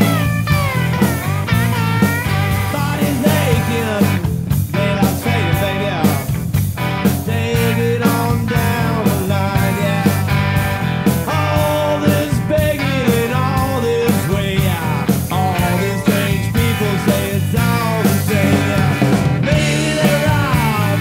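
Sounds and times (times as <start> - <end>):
man singing lead: 0.0 - 21.0
rock band playing live: 0.0 - 21.0.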